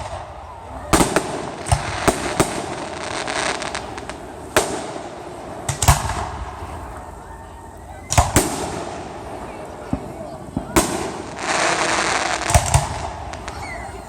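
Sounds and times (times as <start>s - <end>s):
fireworks booming: 0.0s - 14.0s
fireworks crackling: 0.0s - 14.0s.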